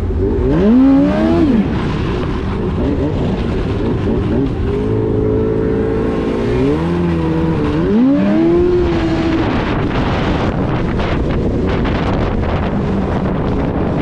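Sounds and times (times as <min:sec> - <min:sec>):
snowmobile engine running: 0:00.0 - 0:14.0
wind and track noise: 0:00.0 - 0:14.0.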